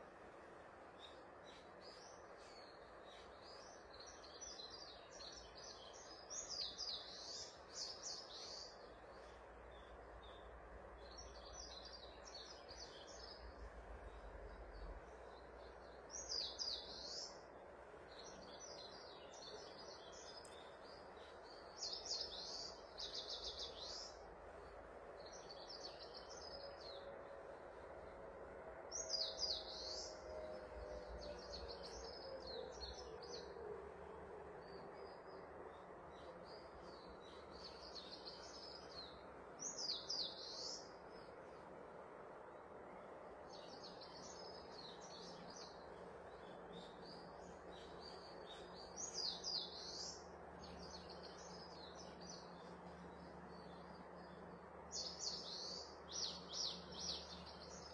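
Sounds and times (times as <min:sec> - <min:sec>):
steady background hiss: 0:00.0 - 0:57.9
bird chirping: 0:00.9 - 0:57.9.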